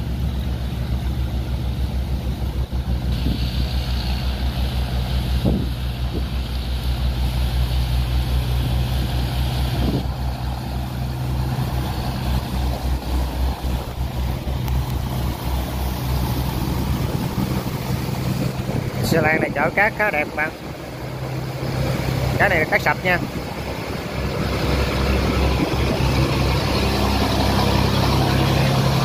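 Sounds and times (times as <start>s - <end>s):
diesel engine throbbing: 0.0s - 29.0s
even hiss: 1.7s - 29.0s.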